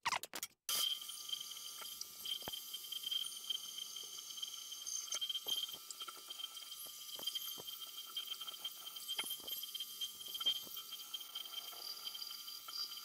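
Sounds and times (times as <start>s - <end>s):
milling spindle whine: 0.7s - 13.0s.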